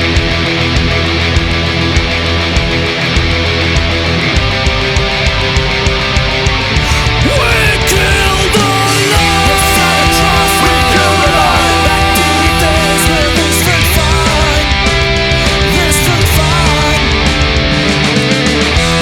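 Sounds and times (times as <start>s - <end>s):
instrumental rock band: 0.0s - 19.0s
lead guitar with pitch bends: 0.0s - 19.0s.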